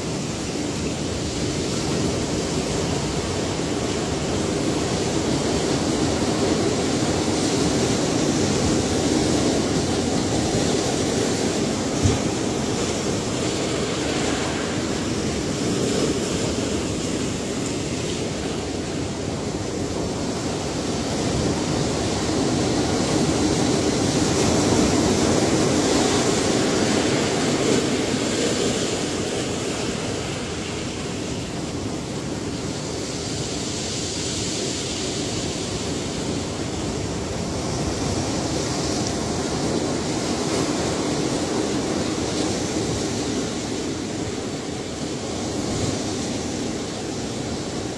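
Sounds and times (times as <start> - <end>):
ocean waves on shore: 0.0 - 47.9.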